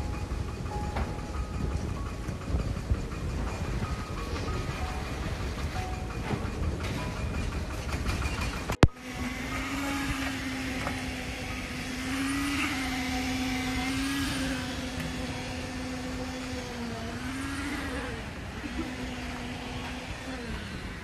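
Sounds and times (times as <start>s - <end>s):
machine motor humming: 0.0s - 21.0s.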